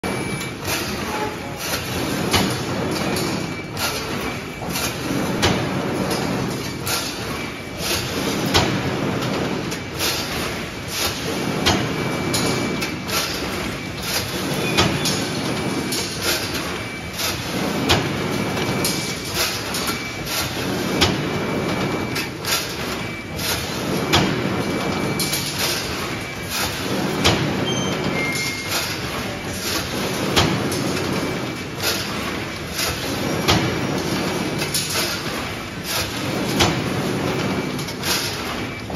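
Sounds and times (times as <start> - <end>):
machine clank: 0.0 - 38.9.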